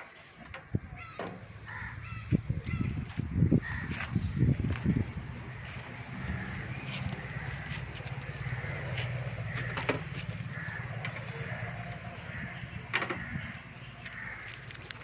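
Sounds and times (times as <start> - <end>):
crows cawing: 0.6 - 3.0, 3.6 - 4.3, 5.6 - 15.0
steady low hum: 0.8 - 14.6.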